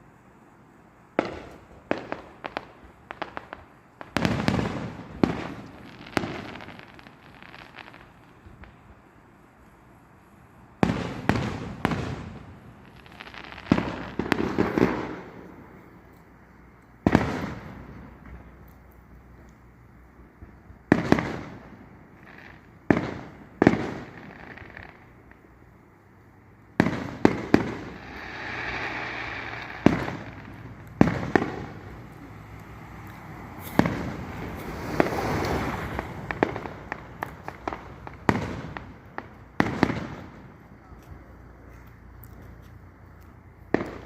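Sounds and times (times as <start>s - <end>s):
fireworks crackling: 0.0s - 44.0s
fireworks booming: 1.0s - 18.6s, 19.7s - 42.1s, 43.5s - 44.0s.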